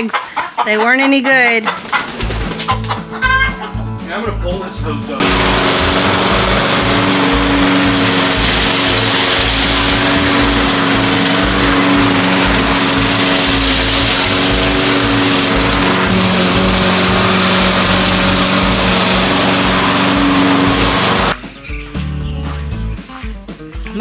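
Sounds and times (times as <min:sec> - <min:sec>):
lawn mower engine running: 0:02.0 - 0:21.4.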